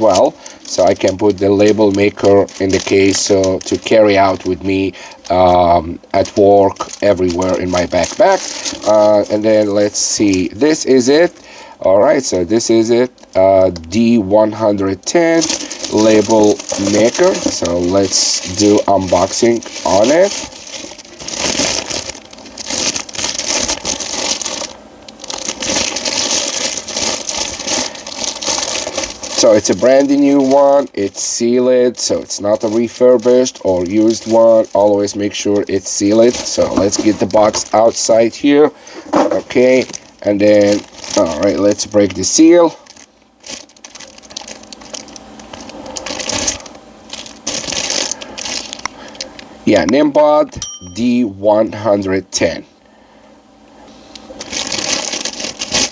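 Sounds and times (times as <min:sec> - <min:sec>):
plastic packaging crinkling: 0:00.0 - 0:50.1, 0:53.8 - 0:55.9.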